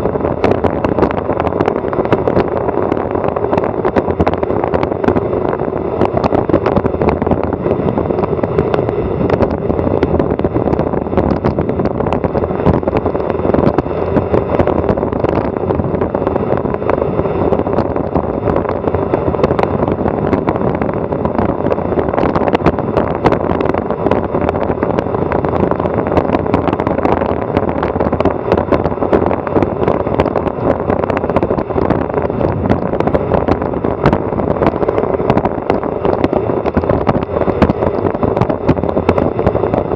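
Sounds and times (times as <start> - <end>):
tyre and road noise: 0.0 - 39.9
wind rushing over microphone: 0.0 - 39.9.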